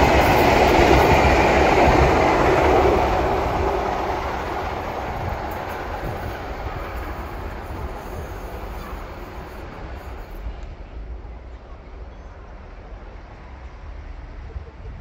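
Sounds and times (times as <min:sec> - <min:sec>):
low train rumble: 0:00.0 - 0:15.0
train wheels on rails: 0:00.0 - 0:15.0.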